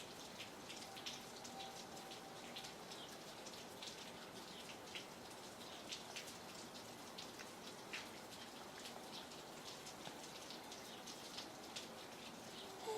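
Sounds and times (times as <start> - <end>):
rain hiss: 0.0 - 12.9
raindrops ticking on surface: 0.0 - 12.9.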